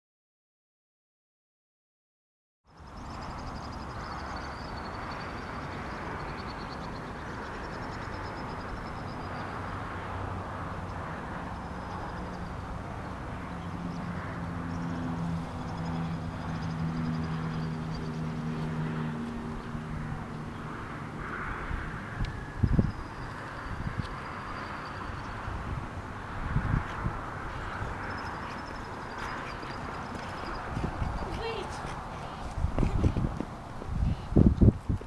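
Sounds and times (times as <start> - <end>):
traffic noise: 2.7 - 35.0
vehicle engine hum: 2.7 - 35.0.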